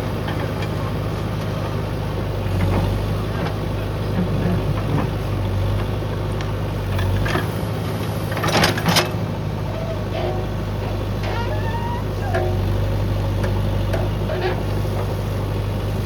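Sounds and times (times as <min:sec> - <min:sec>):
backhoe diesel engine running: 0:00.0 - 0:16.0.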